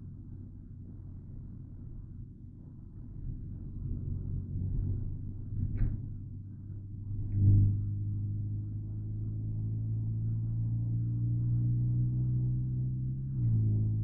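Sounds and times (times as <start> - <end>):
car engine from inside: 0.0 - 14.0.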